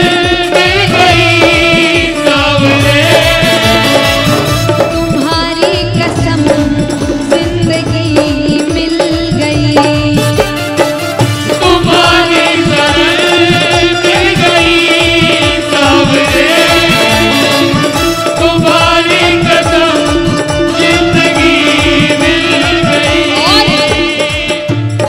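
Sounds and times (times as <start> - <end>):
person singing devotional song: 0.0 - 25.0
rattling percussion: 0.0 - 25.0.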